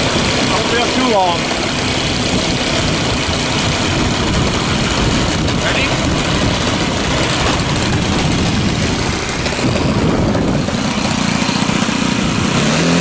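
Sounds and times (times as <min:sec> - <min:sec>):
model plane engine running: 0:00.0 - 0:13.0.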